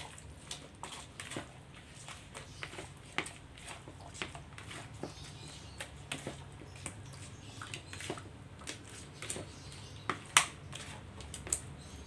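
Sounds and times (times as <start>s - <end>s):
wet squishing of marinade: 0.0s - 12.0s.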